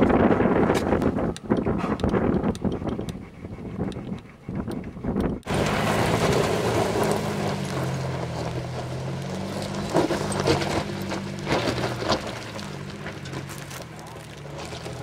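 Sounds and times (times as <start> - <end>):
truck engine running: 0.0 - 15.0
tyre and road noise: 0.0 - 15.0.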